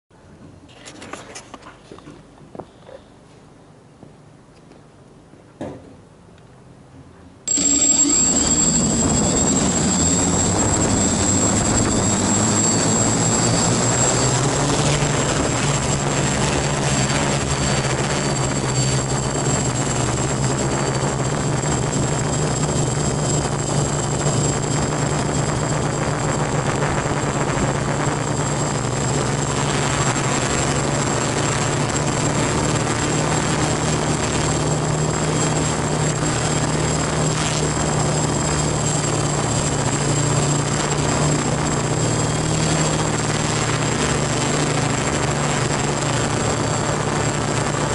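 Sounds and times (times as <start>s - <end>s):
thin high whine: 7.4s - 47.9s
quadcopter motors and propellers: 7.5s - 47.9s.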